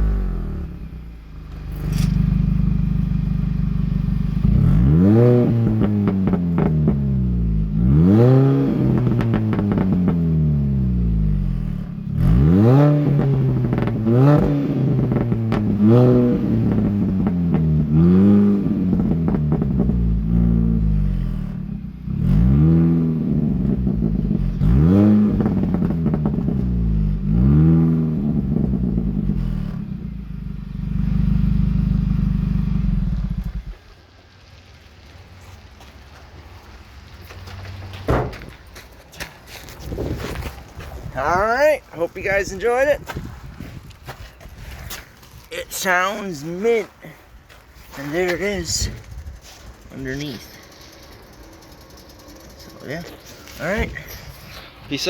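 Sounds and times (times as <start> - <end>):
car engine idling and revving: 0.0 - 44.4, 45.1 - 55.0
exhaust crackles: 0.0 - 55.0.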